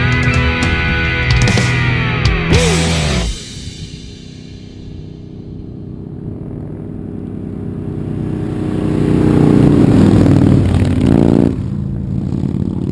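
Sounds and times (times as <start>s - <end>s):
motorcycle engine approaching: 0.0s - 12.9s.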